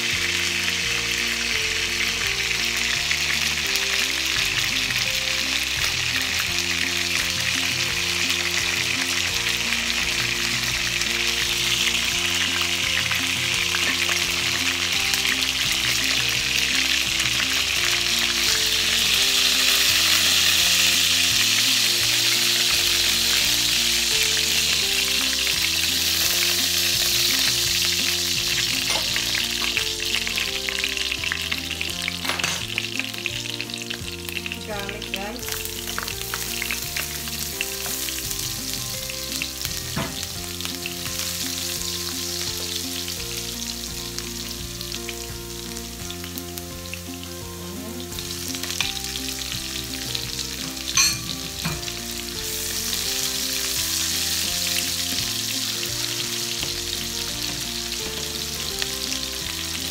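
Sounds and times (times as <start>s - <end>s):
chicken sizzling in frying pan: 0.0s - 59.9s.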